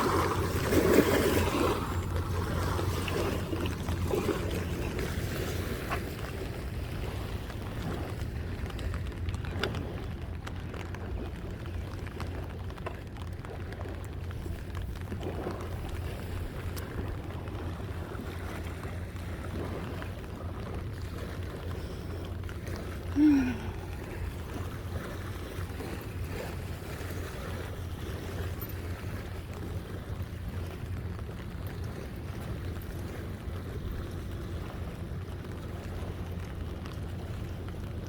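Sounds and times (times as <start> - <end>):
diesel boat engine rumble: 0.0 - 38.0.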